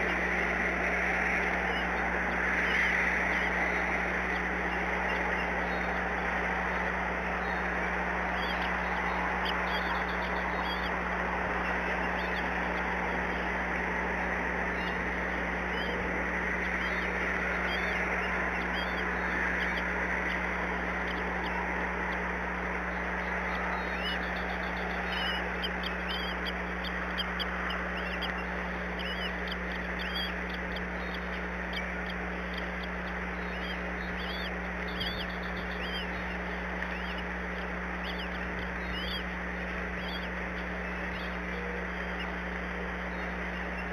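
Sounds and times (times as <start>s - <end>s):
low hum: 0.0s - 43.9s
thin high bird calls: 0.0s - 43.9s.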